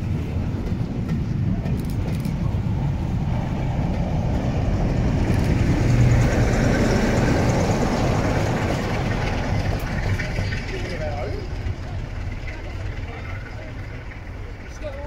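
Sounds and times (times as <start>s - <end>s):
low locomotive engine note: 0.0s - 15.0s
train coaches rolling on rails: 0.0s - 15.0s.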